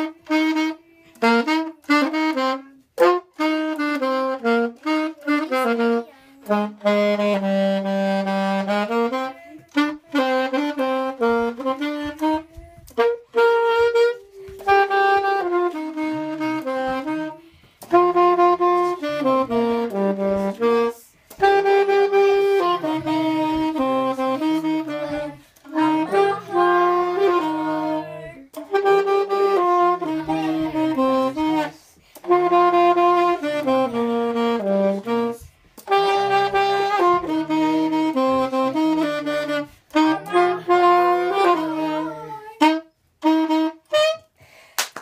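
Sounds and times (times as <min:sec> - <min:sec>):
alto saxophone melody: 0:00.0 - 0:44.6.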